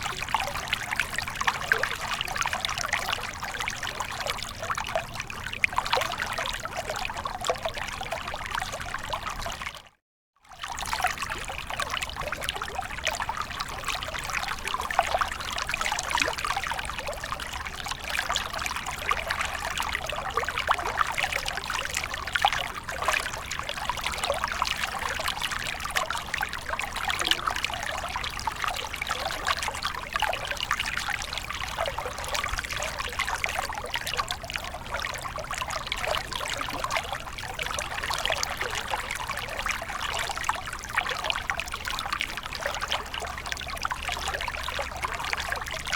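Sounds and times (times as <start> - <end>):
water trickling and bubbling: 0.0 - 45.9.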